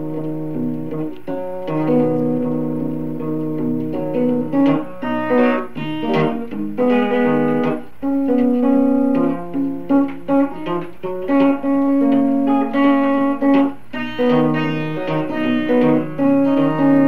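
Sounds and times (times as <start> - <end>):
guitar picked and strummed: 0.0 - 17.0.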